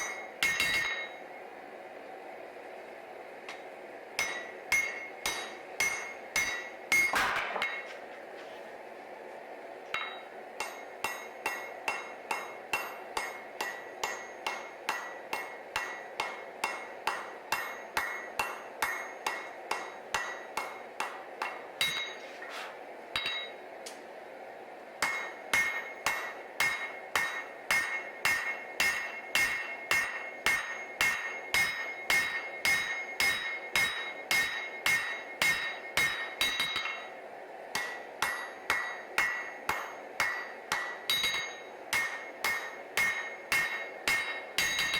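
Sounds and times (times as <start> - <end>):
hammer striking steel on anvil: 0.0 - 1.3, 3.5 - 8.1, 9.9 - 22.5, 23.1 - 24.0, 25.0 - 44.9.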